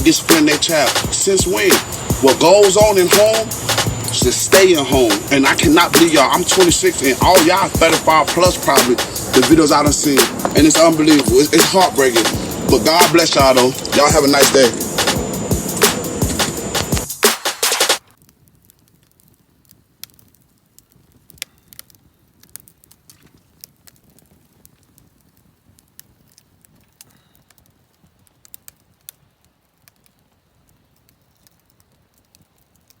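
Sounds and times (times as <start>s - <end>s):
campfire crackling faintly: 0.0s - 33.0s.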